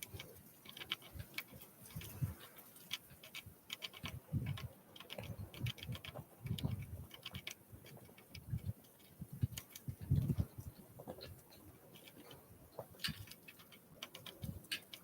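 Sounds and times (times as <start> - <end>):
birds tapping at seed: 0.0 - 15.0.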